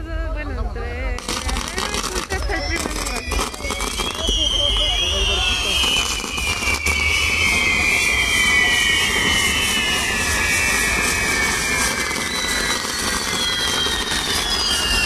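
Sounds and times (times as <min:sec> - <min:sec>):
fire wheels rushing hiss: 0:01.2 - 0:15.0
high falling whistles: 0:01.2 - 0:15.0.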